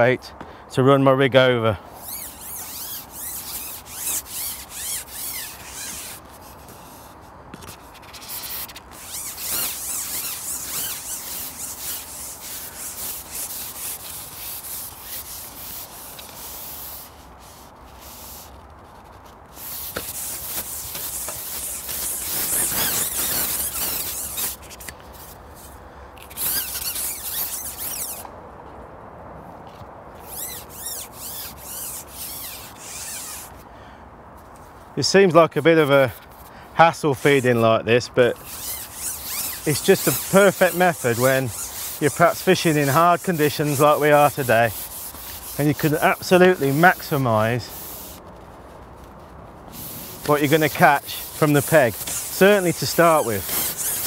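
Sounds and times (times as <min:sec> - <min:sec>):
fishing pole sections scraping: 0:01.9 - 0:28.3, 0:29.7 - 0:33.6, 0:34.4 - 0:54.0.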